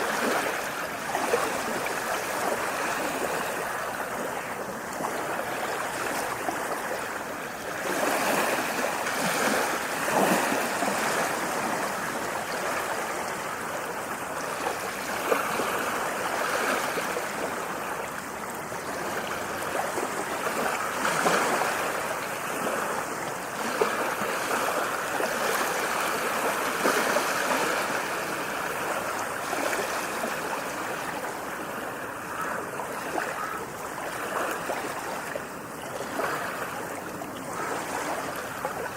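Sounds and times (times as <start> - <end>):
ocean waves washing in: 0.0 - 38.9
small water splashes: 0.0 - 38.9.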